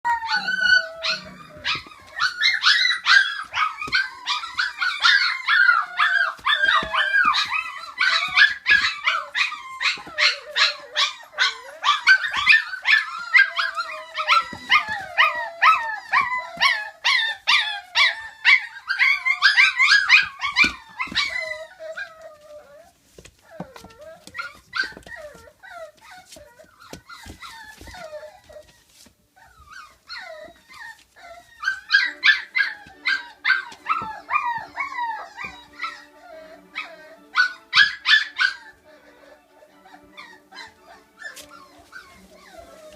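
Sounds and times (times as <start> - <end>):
puppies yipping and howling: 0.0 - 42.9.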